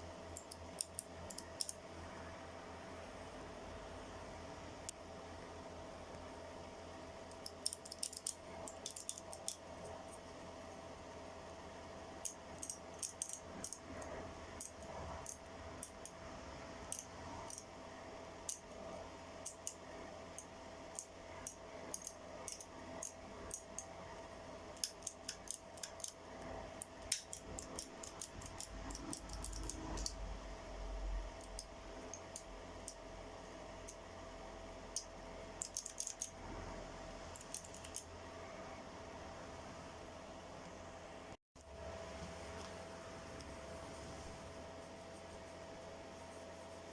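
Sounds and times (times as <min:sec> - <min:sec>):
faint hum: 0:00.0 - 0:46.9.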